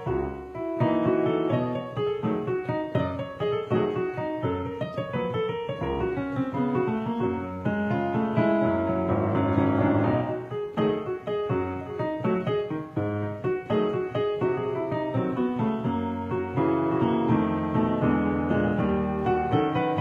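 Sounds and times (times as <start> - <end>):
blues piano playing: 0.0 - 20.0.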